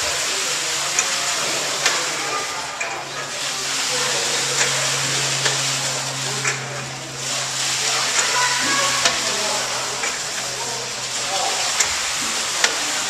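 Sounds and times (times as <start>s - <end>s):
machinery clicking: 0.0s - 13.0s
steam hissing: 0.0s - 13.0s.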